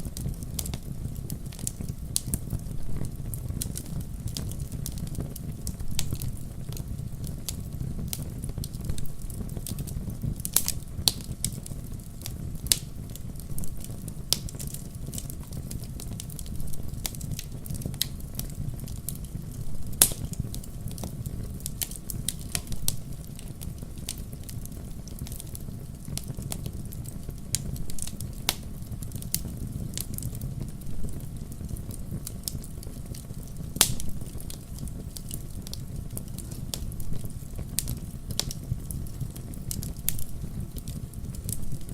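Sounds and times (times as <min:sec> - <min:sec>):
low rumble of flames: 0:00.0 - 0:41.9.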